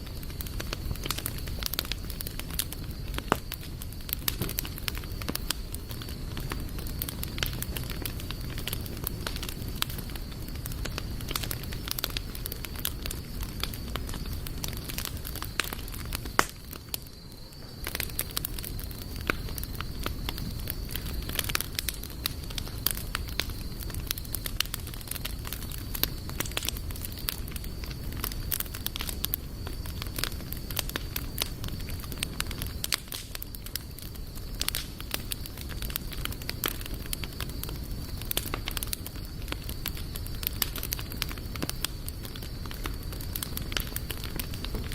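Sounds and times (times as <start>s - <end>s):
campfire crackling and popping: 0.0s - 44.9s
low rumble of flame: 0.0s - 44.9s.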